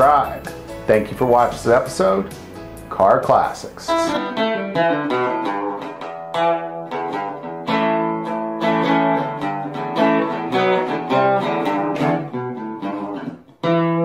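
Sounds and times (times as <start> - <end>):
strummed guitar chords: 0.0 - 14.0.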